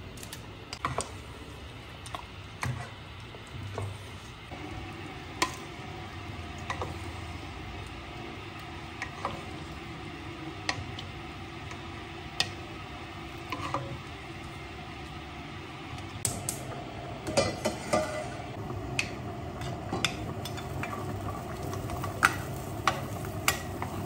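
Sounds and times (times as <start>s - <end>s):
boiling water bubbling: 0.6s - 24.0s.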